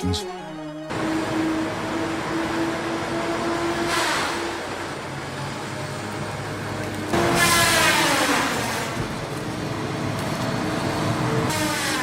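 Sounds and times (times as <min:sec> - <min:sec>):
heavy machinery running: 0:00.0 - 0:12.0.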